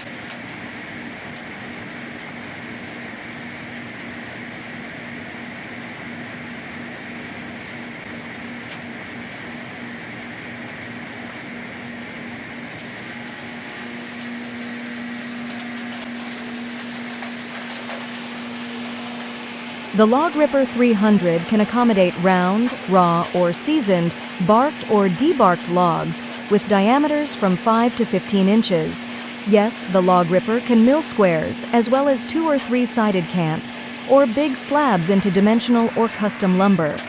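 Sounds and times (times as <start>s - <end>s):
sawmill humming: 0.0s - 37.0s.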